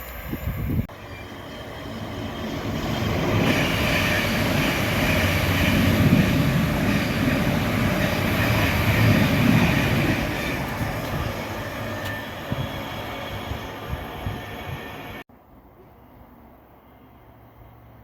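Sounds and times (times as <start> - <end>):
train wheels on rails: 0.0 - 15.2.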